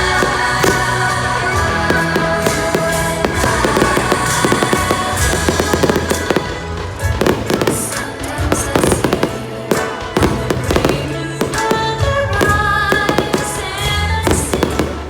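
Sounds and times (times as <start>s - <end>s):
fireworks bursting: 0.0s - 15.0s
music playing: 0.0s - 15.0s.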